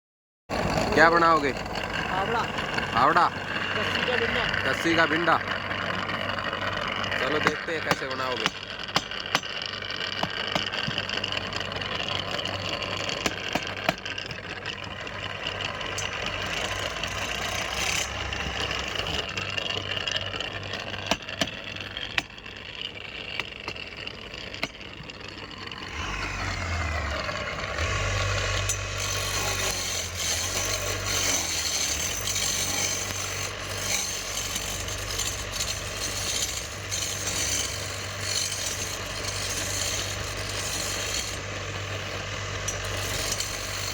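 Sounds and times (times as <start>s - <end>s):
steady humming machine: 0.5s - 7.8s, 8.4s - 43.9s
scraping and rasping wood: 0.5s - 43.9s.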